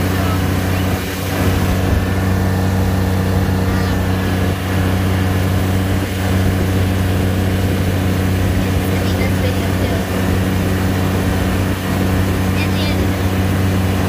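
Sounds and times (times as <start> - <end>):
utility vehicle engine running: 0.0 - 14.0.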